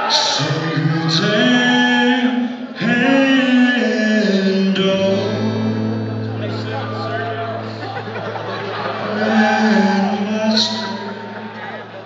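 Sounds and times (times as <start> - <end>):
man singing long held notes: 0.0 - 7.2, 9.0 - 11.5.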